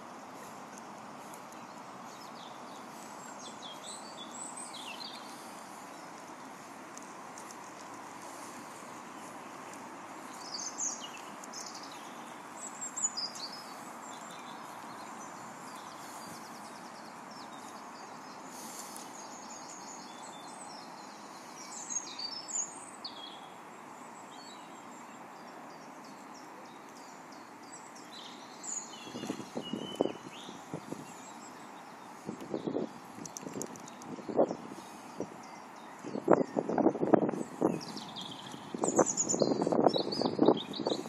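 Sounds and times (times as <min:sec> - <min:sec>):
songbirds chirping: 0:00.0 - 0:41.0
steady outdoor hiss: 0:00.0 - 0:41.0.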